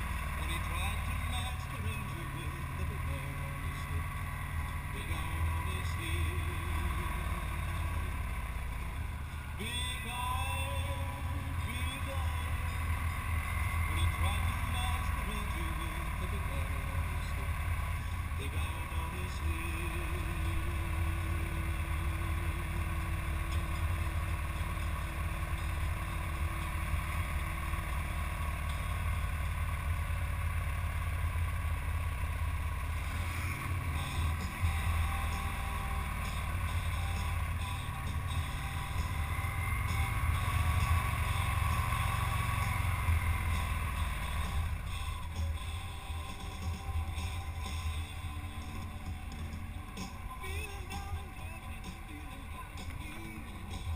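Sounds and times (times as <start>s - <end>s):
motorcycle engine rumble: 0.0s - 53.9s.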